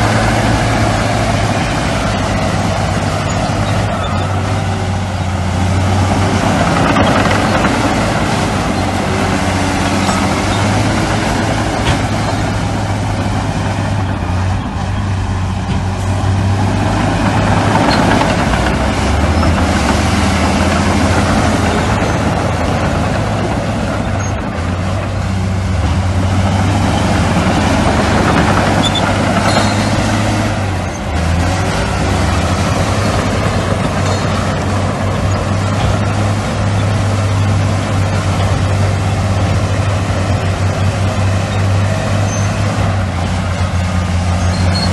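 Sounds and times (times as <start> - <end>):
diesel construction machinery running: 0.0 - 44.9.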